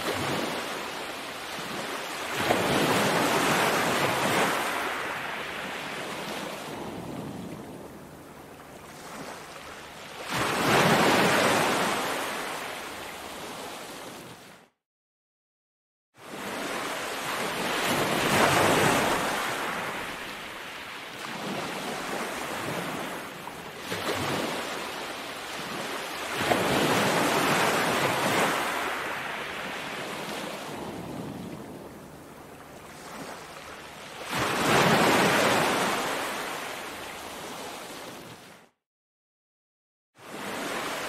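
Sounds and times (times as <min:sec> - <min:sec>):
ocean waves breaking on beach: 0:00.0 - 0:14.7, 0:16.2 - 0:38.8, 0:40.2 - 0:41.0.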